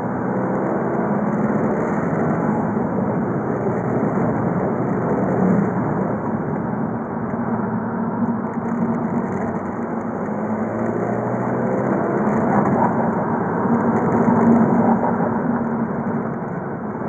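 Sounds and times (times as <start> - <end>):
diesel car engine running: 0.0 - 17.0.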